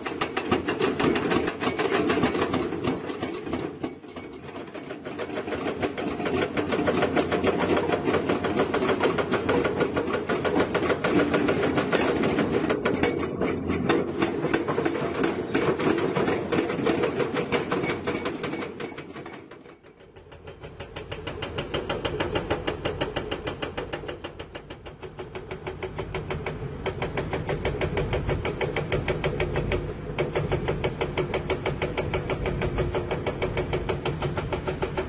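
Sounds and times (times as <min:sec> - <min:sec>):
heavy diesel engine clattering: 0:00.0 - 0:19.5, 0:20.3 - 0:35.0.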